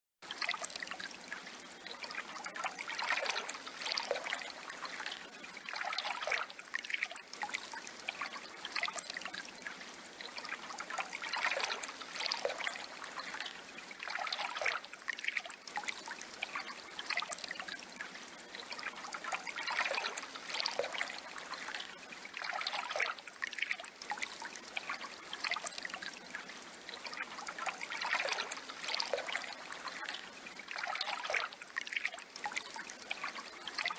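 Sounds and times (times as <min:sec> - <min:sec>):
water trickling and splashing: 0:00.2 - 0:33.9.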